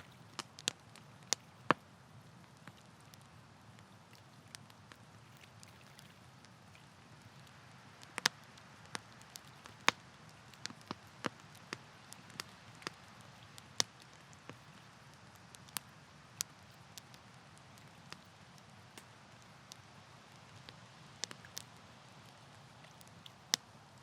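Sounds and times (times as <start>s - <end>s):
campfire crackling and popping: 0.0s - 24.0s
low burning hiss: 0.0s - 24.0s.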